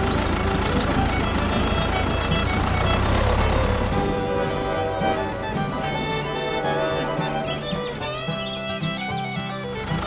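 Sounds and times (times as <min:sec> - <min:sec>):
background music: 0:00.0 - 0:10.0
low vehicle engine rumble: 0:00.0 - 0:10.0.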